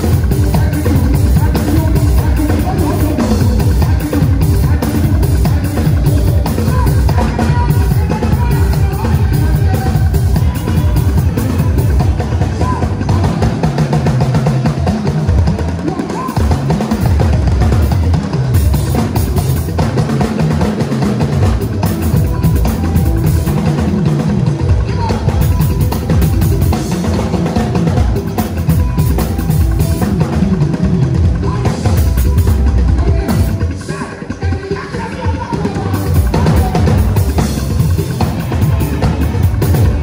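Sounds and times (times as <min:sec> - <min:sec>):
bass drum and snare beat: 0:00.0 - 0:40.0
live band playing: 0:00.0 - 0:40.0.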